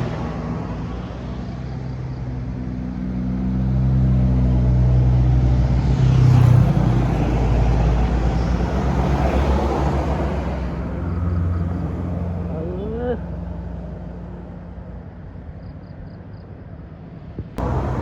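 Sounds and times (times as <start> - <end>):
bus engine passing: 0.0 - 18.0.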